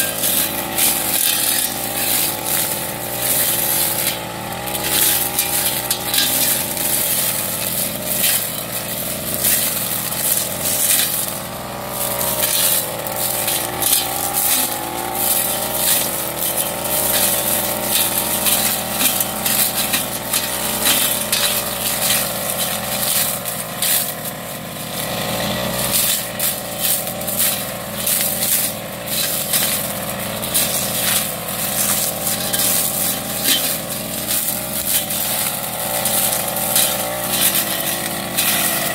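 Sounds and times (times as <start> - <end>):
brush cutter engine at high revs: 0.0 - 38.9
grass stems crackling and snapping: 0.0 - 38.9.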